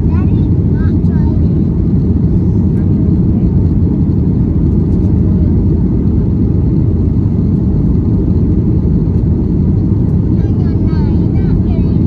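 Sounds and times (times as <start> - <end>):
airflow in cabin: 0.0 - 12.0
airplane engines rumbling: 0.0 - 12.0.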